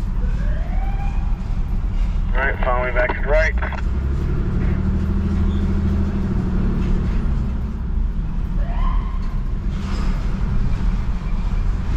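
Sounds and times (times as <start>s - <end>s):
car engine rumbling inside cabin: 0.0s - 11.9s.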